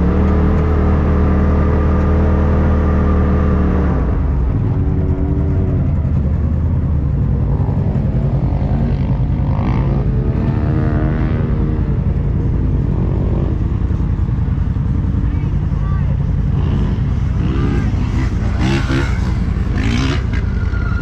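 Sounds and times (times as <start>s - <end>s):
off-road engines idling: 0.0s - 21.0s.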